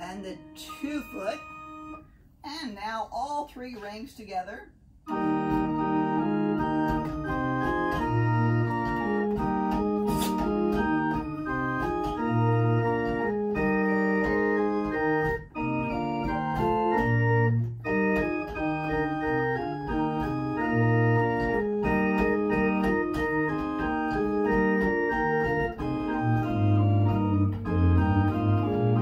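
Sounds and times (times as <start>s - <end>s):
low organ pedal notes: 0.0s - 2.1s, 5.1s - 29.0s
pipe organ chords: 0.0s - 2.1s, 5.0s - 29.0s.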